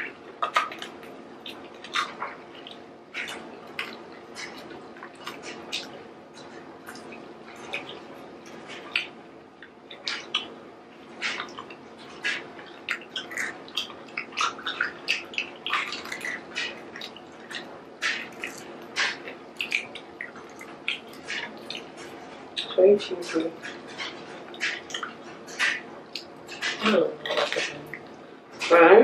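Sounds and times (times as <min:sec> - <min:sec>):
people chewing: 0:00.0 - 0:28.8.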